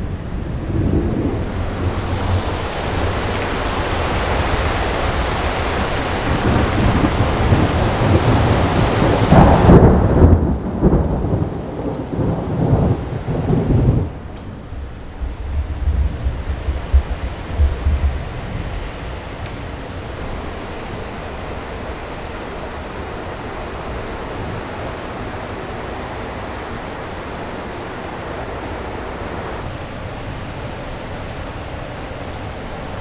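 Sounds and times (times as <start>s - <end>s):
heavy rain hissing: 0.0s - 33.0s
rolling thunder rumble: 0.0s - 33.0s.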